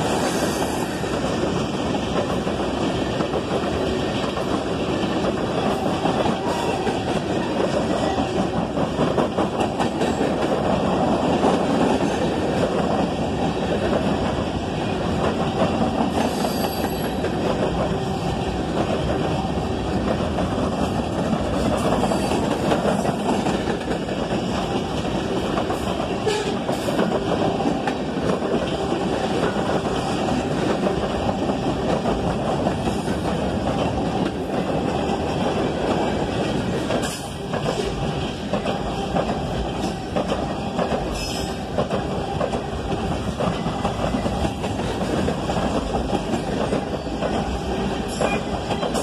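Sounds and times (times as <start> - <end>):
clickety-clack over rail joints: 0.0 - 49.0
freight train wheels rumbling: 0.0 - 49.0.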